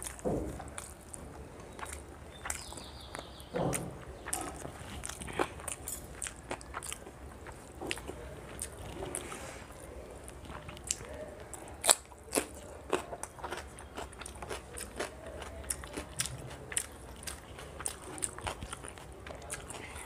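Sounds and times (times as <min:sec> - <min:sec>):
chewing food: 0:00.0 - 0:20.0.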